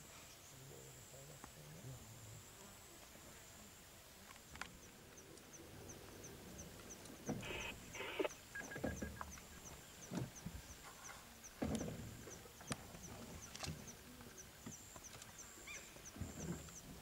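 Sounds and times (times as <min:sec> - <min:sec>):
insects trilling and chirping: 0:00.1 - 0:17.0
rustles: 0:01.3 - 0:17.0.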